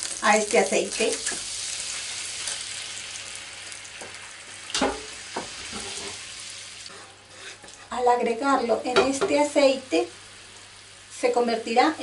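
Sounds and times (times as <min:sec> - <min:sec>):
juice sizzling in hot oil: 0:00.0 - 0:12.0.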